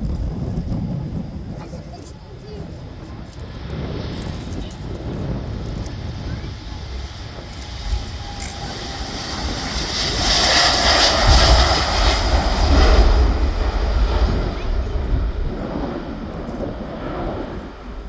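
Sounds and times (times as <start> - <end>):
jet airliner engine roar: 0.0 - 18.0.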